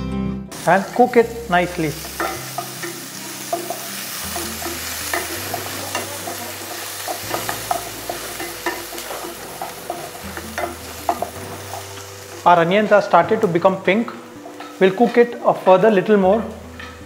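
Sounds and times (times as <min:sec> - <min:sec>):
onions sizzling in hot oil: 0:00.5 - 0:17.0.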